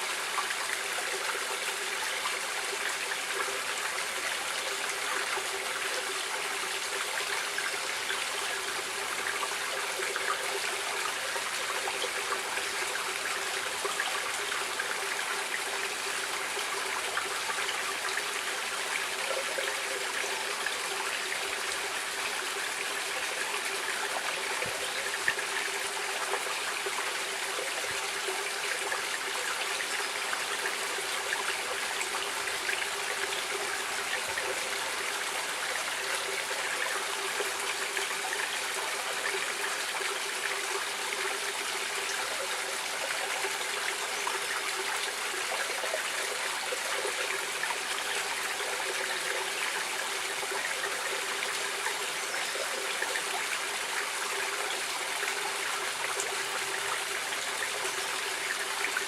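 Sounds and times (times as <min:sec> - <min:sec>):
stream water running over rocks: 0:00.0 - 0:59.0.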